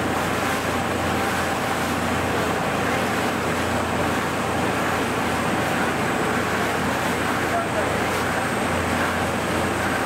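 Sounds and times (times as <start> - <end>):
boat engine running: 0.0 - 10.0
water and wind rushing: 0.0 - 10.0.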